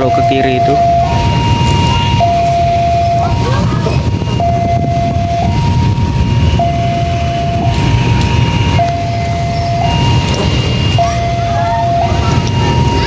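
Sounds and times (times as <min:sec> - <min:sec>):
low rumble: 0:00.0 - 0:13.0
two-tone crossing alarm: 0:00.0 - 0:13.0.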